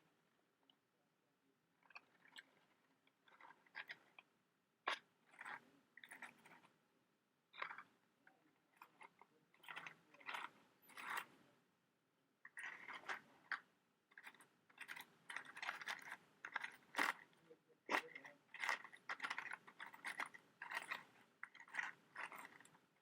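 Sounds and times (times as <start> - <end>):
matchbox handling scratches and taps: 1.8 - 4.3, 4.9 - 6.8, 7.6 - 11.4, 12.5 - 23.0.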